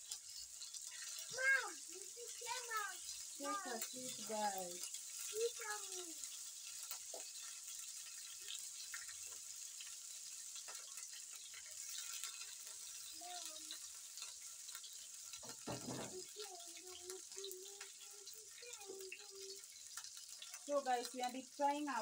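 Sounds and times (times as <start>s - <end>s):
sausages sizzling in hot oil: 0.0s - 22.0s.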